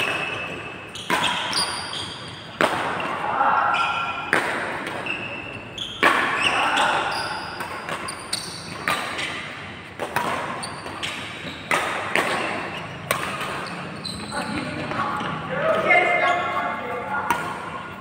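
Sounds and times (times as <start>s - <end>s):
racket hitting shuttlecock: 0.0s - 3.2s, 3.9s - 18.0s.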